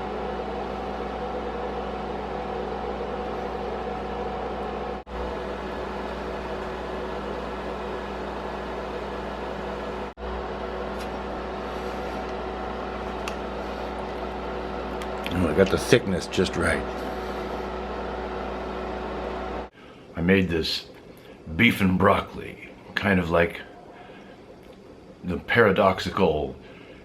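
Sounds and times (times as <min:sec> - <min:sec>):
electrical hum: 0:00.0 - 0:27.0
fan whirring: 0:00.0 - 0:27.0.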